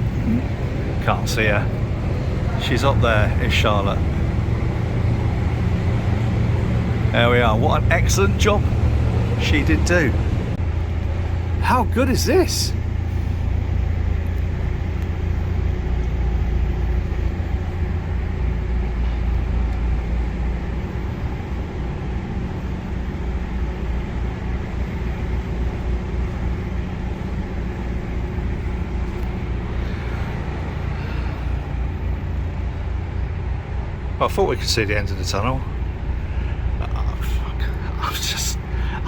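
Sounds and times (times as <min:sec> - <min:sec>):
boat engine rumbling in tunnel: 0:00.0 - 0:39.0.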